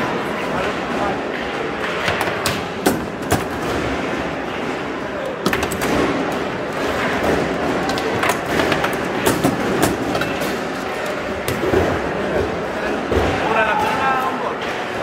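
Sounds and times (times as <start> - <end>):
murmur of many voices: 0.0 - 15.0.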